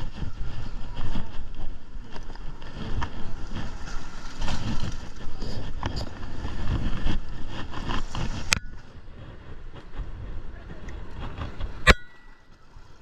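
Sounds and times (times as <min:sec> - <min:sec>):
rope rustling and clicking: 0:00.0 - 0:13.0
wind buffeting microphone: 0:00.0 - 0:13.0.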